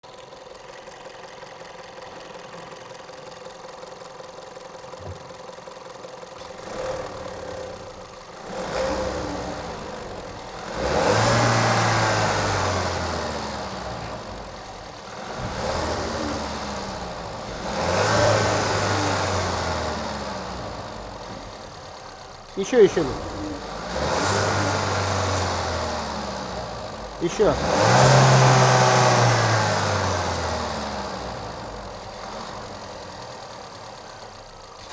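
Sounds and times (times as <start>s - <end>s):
car engine idling and revving: 0.1s - 34.9s.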